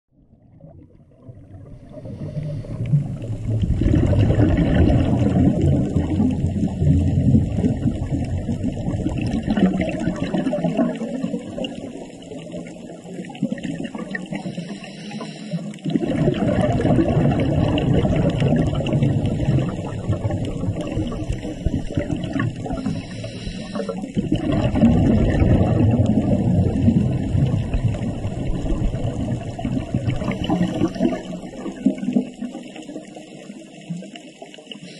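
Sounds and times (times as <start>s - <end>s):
underwater rushing water: 0.2s - 34.9s.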